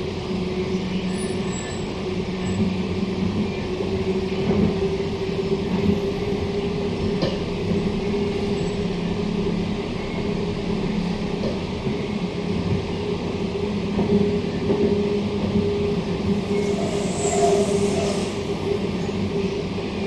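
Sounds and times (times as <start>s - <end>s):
wheels rumbling on track: 0.0s - 20.0s.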